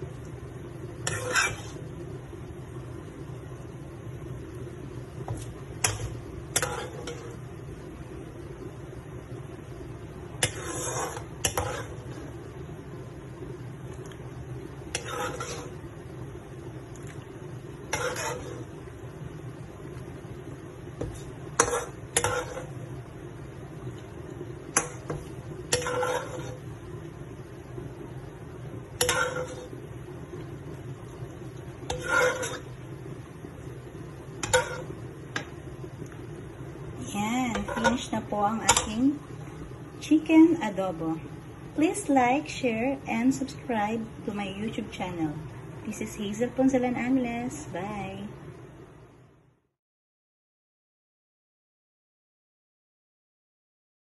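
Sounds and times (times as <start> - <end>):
steady low hum: 0.0 - 49.6.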